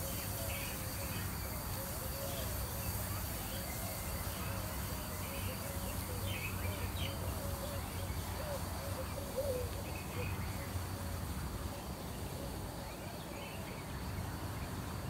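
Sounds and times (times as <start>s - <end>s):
birds calling and chirping: 0.0s - 14.3s
faint high-pitched insect tone: 0.0s - 15.0s.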